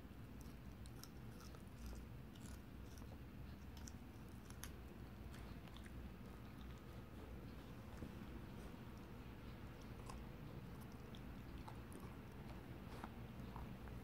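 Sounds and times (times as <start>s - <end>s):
puppy crunching carrot: 0.2s - 14.0s.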